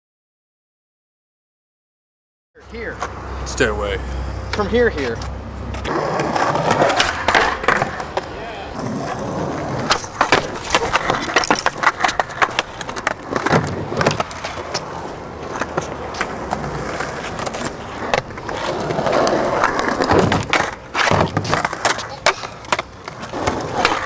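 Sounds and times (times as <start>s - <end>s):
skateboards rolling on concrete: 2.6s - 24.0s
skateboard clacks: 4.5s - 24.0s
skateboard trucks grinding: 4.5s - 24.0s.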